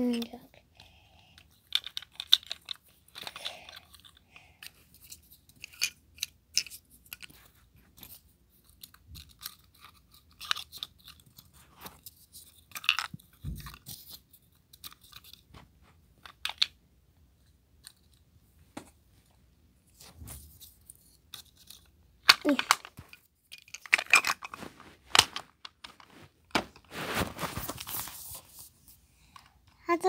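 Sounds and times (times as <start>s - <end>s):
crackling clicks and rustles: 0.0s - 29.8s.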